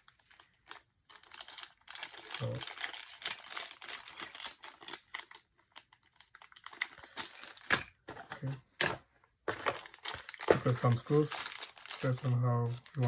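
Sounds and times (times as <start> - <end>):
plastic packaging crinkling: 0.0 - 7.7, 9.5 - 13.0.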